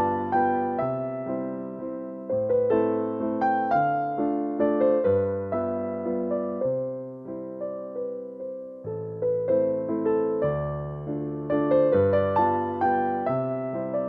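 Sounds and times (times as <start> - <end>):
electric piano melody: 0.0 - 14.0.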